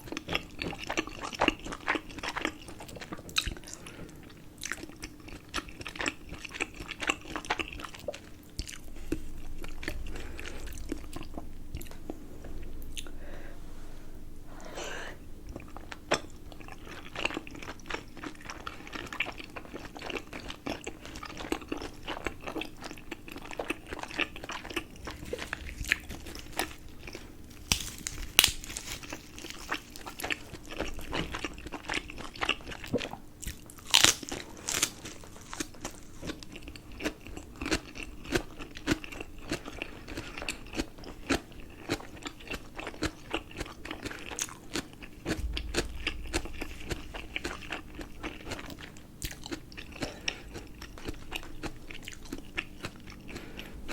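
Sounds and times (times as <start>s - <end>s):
chewing and biting dumplings: 0.0s - 12.2s, 15.5s - 53.9s.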